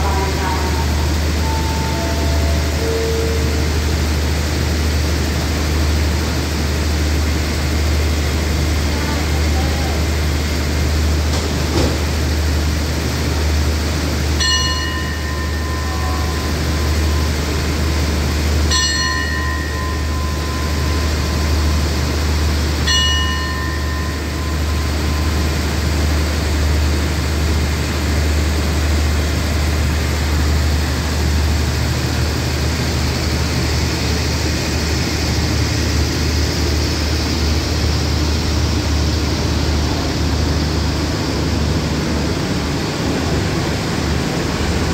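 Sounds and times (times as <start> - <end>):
station bell ringing: 0.0 - 11.2, 13.5 - 44.9
diesel train rumble: 0.0 - 44.9.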